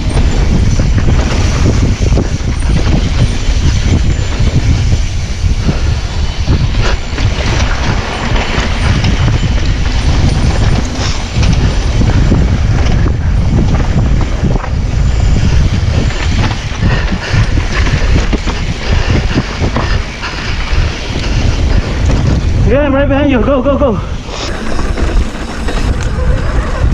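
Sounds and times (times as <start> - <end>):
mountain bike rattling over rocks: 0.0 - 22.7, 24.5 - 26.9
wind buffeting microphone: 0.0 - 26.9.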